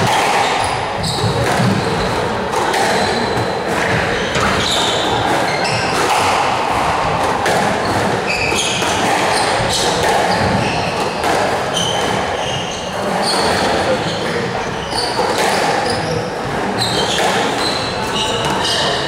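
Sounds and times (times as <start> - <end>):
shoes squeaking on wooden floor: 0.0 - 6.4, 7.5 - 19.0
squash ball smacking racquets and walls: 0.0 - 19.0.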